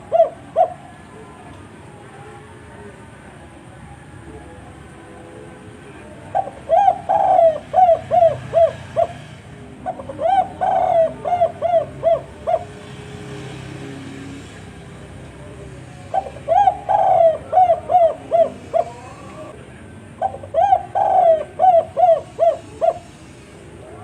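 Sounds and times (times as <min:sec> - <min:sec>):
dove cooing: 0:00.0 - 0:01.8, 0:05.1 - 0:24.0.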